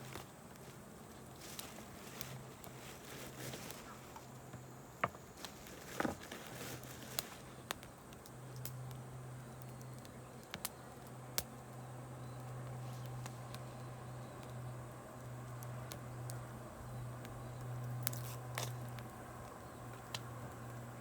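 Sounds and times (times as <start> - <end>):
campfire crackling and popping: 0.0 - 21.0
steady low hum: 0.0 - 21.0.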